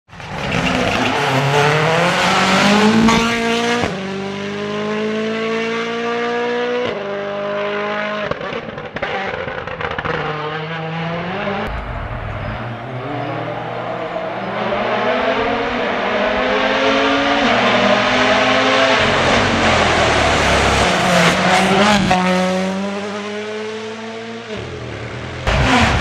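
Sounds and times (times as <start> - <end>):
rally car engine accelerating: 0.1 - 26.0.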